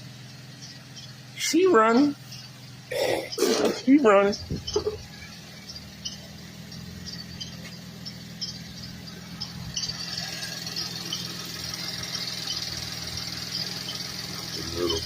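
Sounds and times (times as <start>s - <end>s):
car engine idling: 0.0s - 15.0s
thin high squeal: 2.2s - 15.0s.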